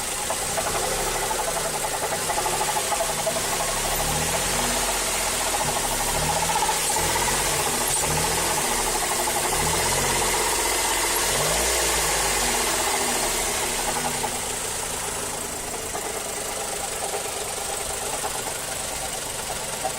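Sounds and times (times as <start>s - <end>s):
car engine running: 0.0s - 19.9s
rapid engine knocking: 0.0s - 19.9s.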